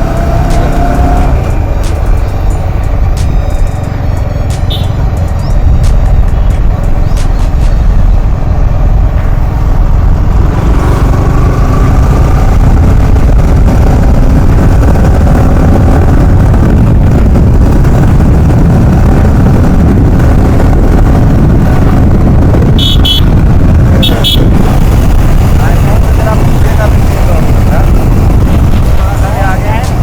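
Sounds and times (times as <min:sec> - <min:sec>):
motorcycle engine running: 0:00.0 - 0:30.0
wind buffeting microphone: 0:00.0 - 0:30.0.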